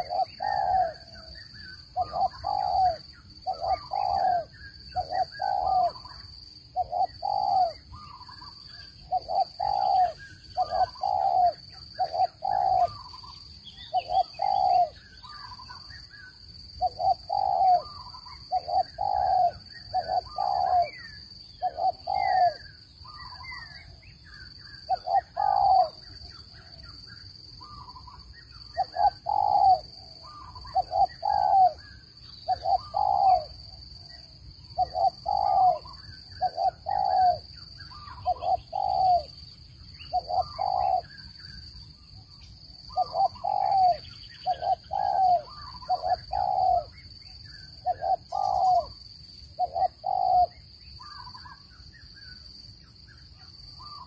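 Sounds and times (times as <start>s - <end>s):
dove cooing: 0.0s - 15.8s, 16.8s - 24.0s, 24.9s - 26.9s, 27.6s - 33.7s, 34.8s - 39.4s, 40.0s - 41.2s, 42.9s - 47.0s, 47.6s - 49.0s, 49.6s - 51.6s
faint high chirping: 0.0s - 54.0s.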